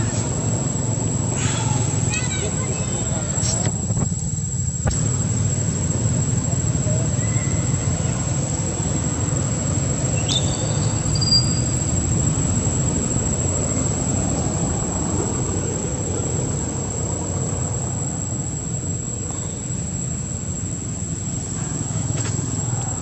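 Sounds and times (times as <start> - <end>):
insect drone: 0.0 - 23.0.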